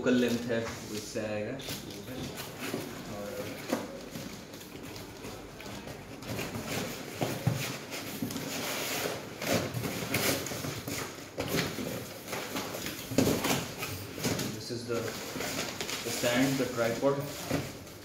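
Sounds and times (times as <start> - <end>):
plastic wrapping rustling: 0.0 - 18.0.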